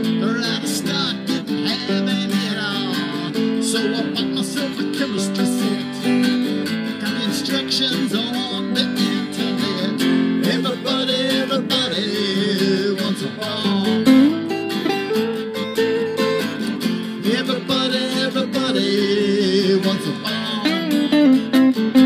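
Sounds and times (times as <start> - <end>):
acoustic guitar strumming chords: 0.0 - 22.0
electric guitar lead lines: 0.0 - 22.0.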